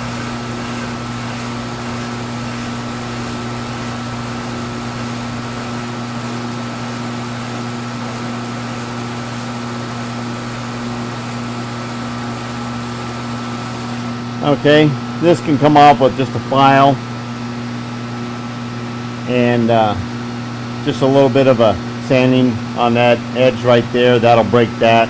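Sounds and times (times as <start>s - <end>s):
machine tool motor hum: 0.0s - 25.0s.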